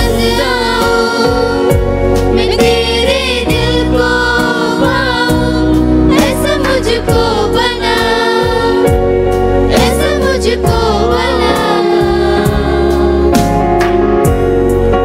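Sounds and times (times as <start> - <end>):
women singing together: 0.0 - 9.0, 9.7 - 13.5
electronic keyboard low notes: 0.0 - 15.0.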